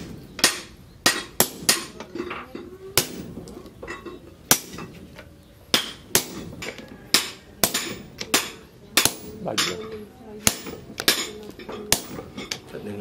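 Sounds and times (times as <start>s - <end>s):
sledgehammer striking chisel on metal: 0.0s - 5.0s, 5.7s - 12.7s.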